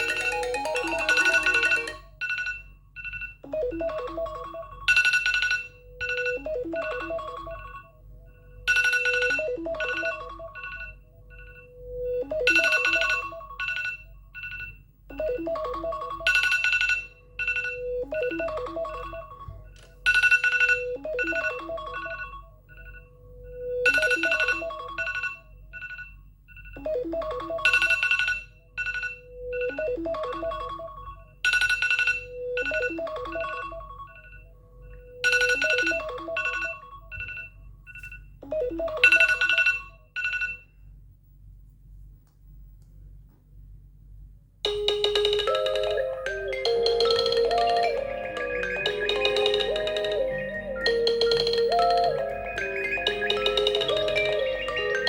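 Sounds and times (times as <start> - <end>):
phone alarm melody: 0.0 - 40.7, 44.7 - 55.0.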